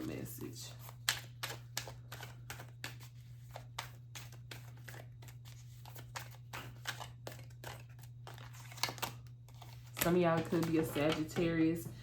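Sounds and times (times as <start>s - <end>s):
cards being shuffled: 0.7s - 11.5s.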